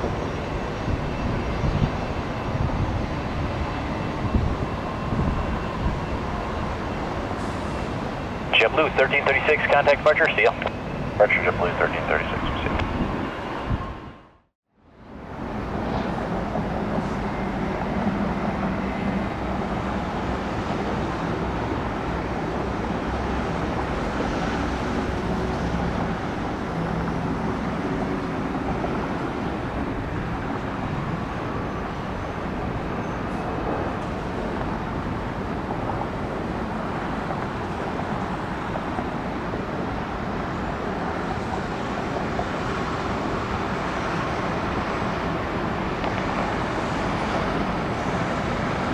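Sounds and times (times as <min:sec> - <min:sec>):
airliner jet engine noise: 0:00.0 - 0:48.9.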